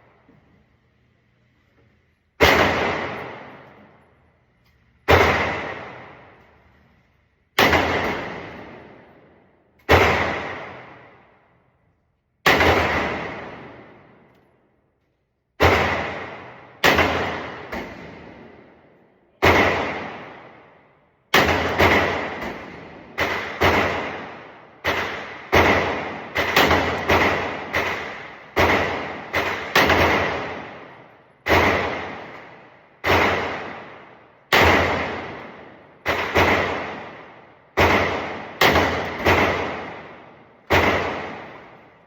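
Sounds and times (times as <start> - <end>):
gunshots with long echo: 2.3 - 11.7, 12.4 - 14.6, 15.5 - 42.0.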